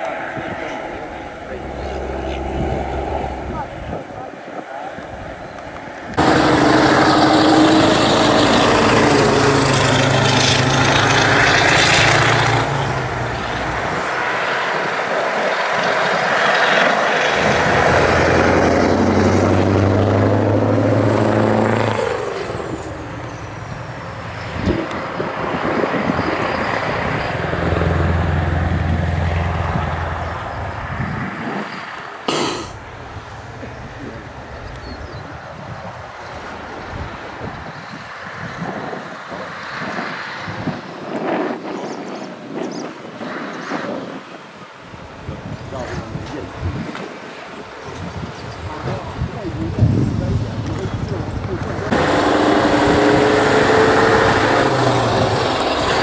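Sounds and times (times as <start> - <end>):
diesel trucks passing: 0.0 - 41.4, 45.0 - 56.0.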